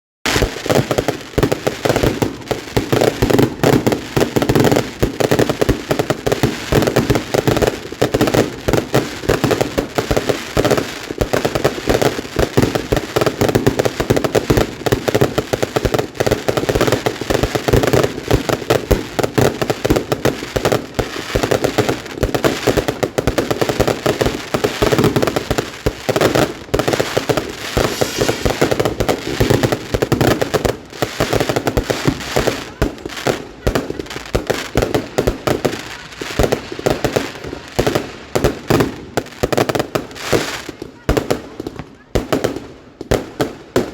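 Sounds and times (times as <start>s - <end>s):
fireworks bangs and crackles: 0.3s - 43.9s.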